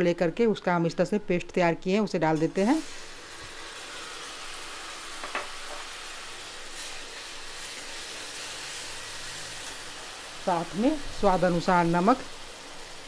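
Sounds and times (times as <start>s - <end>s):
paste sizzling in hot oil: 2.4s - 13.0s.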